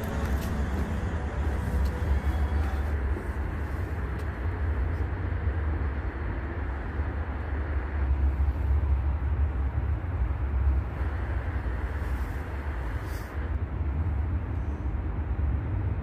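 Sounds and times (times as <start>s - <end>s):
low outdoor background rumble: 0.0s - 16.0s.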